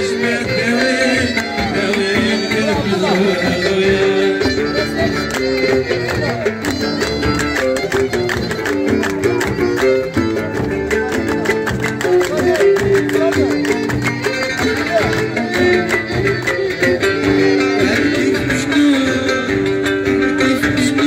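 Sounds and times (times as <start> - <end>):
frame drums beat: 0.0 - 21.0
oud melody: 0.0 - 21.0
violin melody: 0.0 - 21.0.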